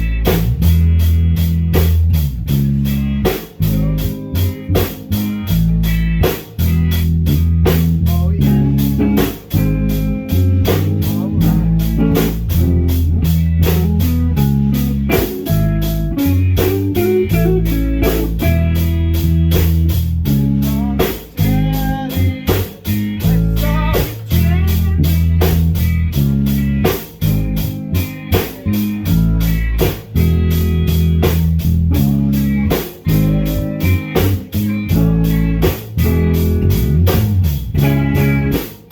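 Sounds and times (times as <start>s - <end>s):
bass guitar: 0.0s - 38.9s
drum kit beat: 0.0s - 38.9s
guitar: 0.0s - 38.9s.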